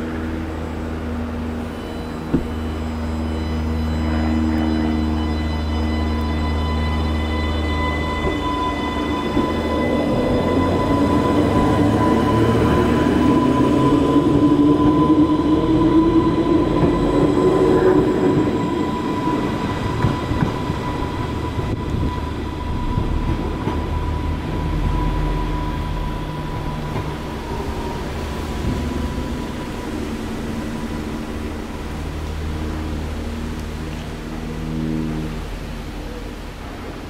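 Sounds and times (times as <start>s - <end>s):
electric train motor whine: 0.0s - 37.0s
train rumble: 0.0s - 37.0s.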